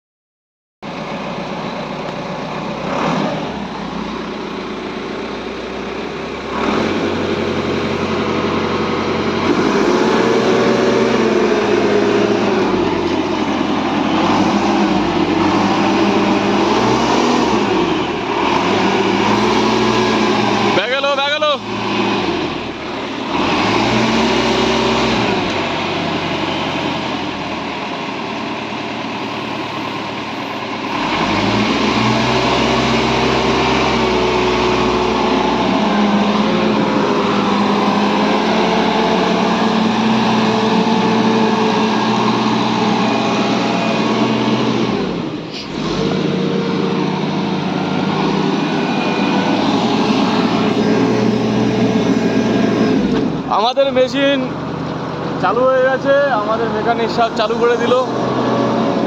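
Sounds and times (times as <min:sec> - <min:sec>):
concrete mixer engine running: 0:00.8 - 0:59.0.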